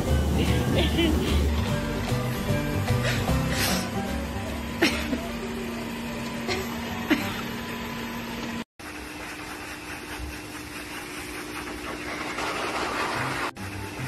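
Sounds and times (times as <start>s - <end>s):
grooming hose motor whir: 0.0s - 14.0s
robot vacuum cleaner humming: 0.0s - 14.0s.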